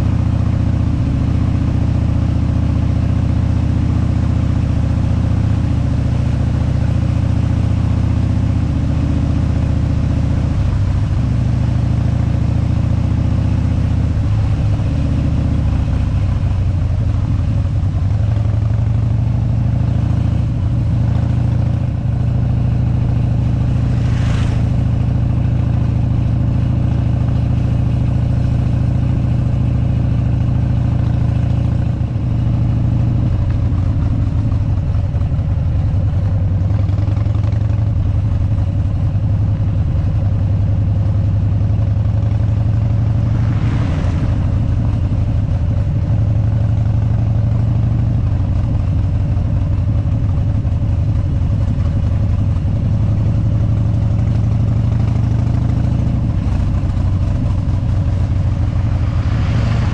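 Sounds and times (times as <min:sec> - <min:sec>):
motorcycle engine low rumble: 0:00.0 - 0:59.9.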